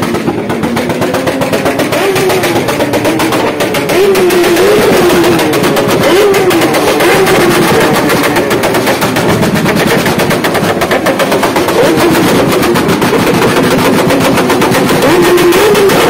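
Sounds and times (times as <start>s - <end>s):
exhaust crackling rattle: 0.0s - 16.0s
motorcycle engine revving: 0.0s - 16.0s.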